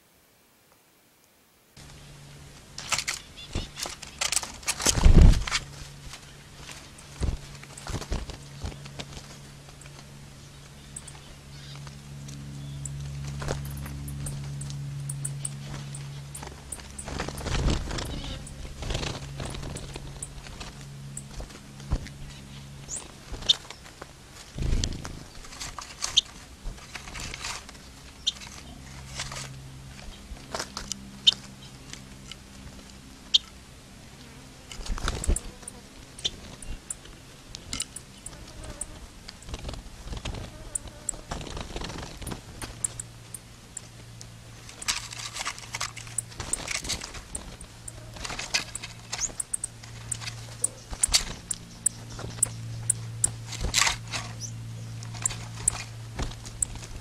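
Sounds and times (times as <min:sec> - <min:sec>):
birds pecking on dry straw: 0:01.8 - 0:57.0.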